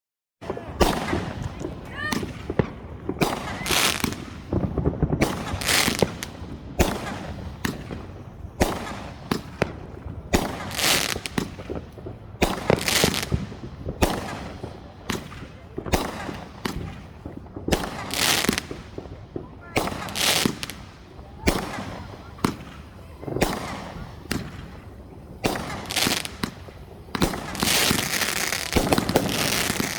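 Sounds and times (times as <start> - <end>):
fireworks bangs: 0.4 - 29.9
fireworks crackling hiss: 0.5 - 29.9.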